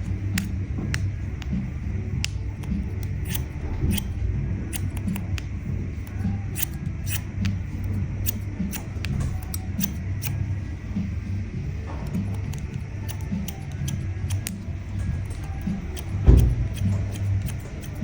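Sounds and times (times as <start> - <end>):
scissors snipping hair: 0.0 - 1.6, 2.2 - 10.4, 12.0 - 18.0.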